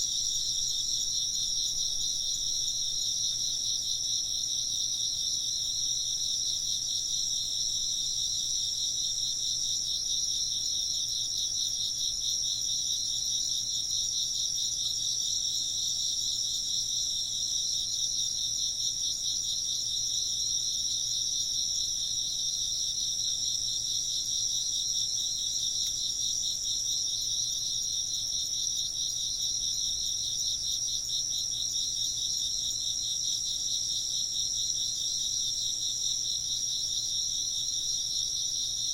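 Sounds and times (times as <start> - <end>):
continuous insect trill: 0.0 - 38.9.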